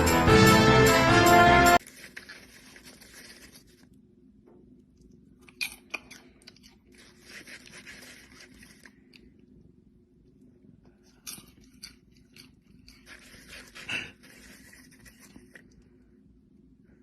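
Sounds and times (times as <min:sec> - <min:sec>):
crunching and chewing: 0:01.8 - 0:04.1, 0:04.8 - 0:16.6.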